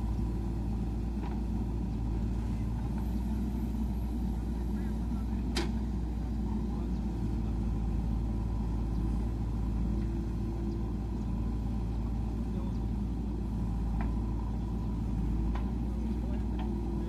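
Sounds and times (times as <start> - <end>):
diesel engine rumbling under load: 0.0 - 17.0.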